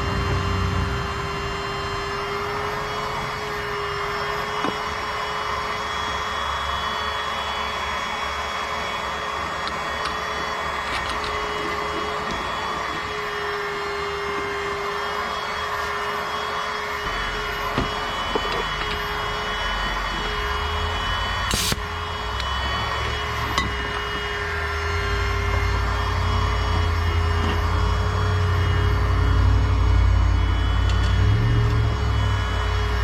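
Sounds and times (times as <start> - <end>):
machine whirring with hum: 0.0 - 33.0.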